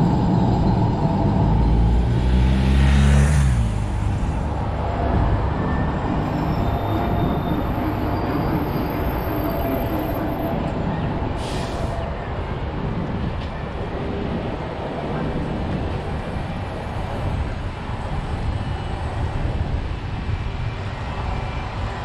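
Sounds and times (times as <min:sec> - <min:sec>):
heavy vehicle engine hum: 0:00.0 - 0:22.0
steady traffic rumble: 0:00.0 - 0:22.0.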